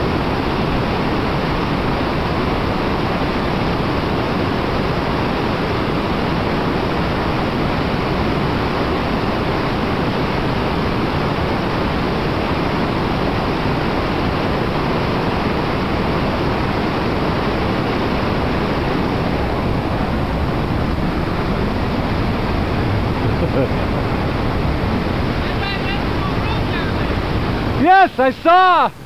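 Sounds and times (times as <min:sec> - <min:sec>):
river whitewater rushing: 0:00.0 - 0:29.0.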